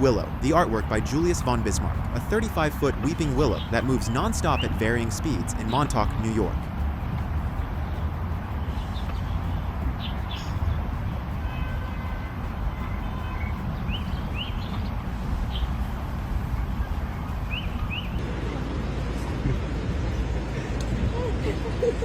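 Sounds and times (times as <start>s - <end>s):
birds chirping: 0.0s - 22.0s
low outdoor rumble: 0.0s - 22.0s.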